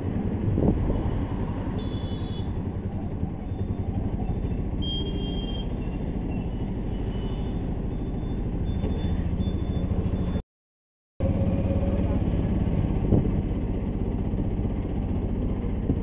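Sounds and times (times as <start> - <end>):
road traffic rumble: 0.0 - 10.4, 11.2 - 16.0.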